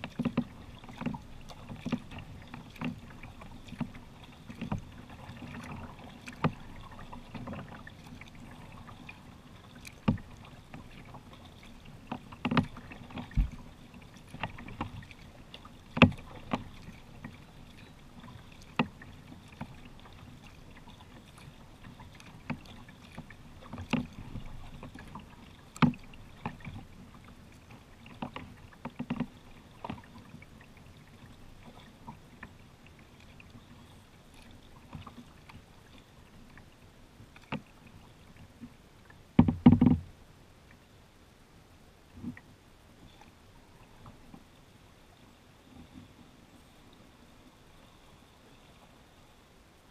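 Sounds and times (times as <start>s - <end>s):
paddle strokes in water: 0.0s - 49.9s.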